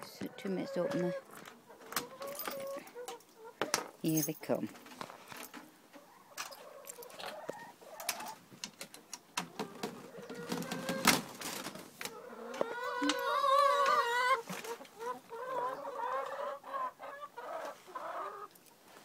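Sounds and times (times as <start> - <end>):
hens clucking: 0.0 - 3.9, 5.6 - 8.6, 9.2 - 18.6.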